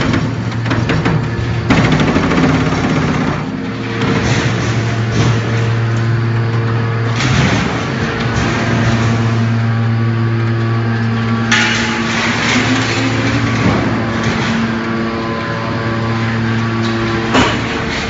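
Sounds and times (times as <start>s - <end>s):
hydraulic power unit humming: 0.0s - 18.0s.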